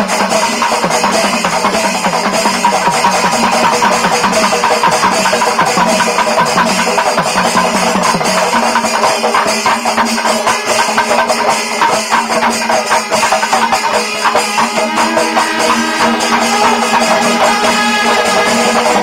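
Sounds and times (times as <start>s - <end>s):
fast drumming and percussion: 0.0s - 19.0s.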